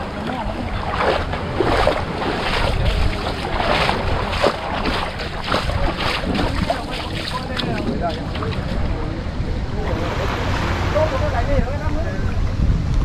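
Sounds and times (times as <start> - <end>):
waves lapping on sand: 0.0 - 13.0
wind buffeting microphone: 0.0 - 13.0.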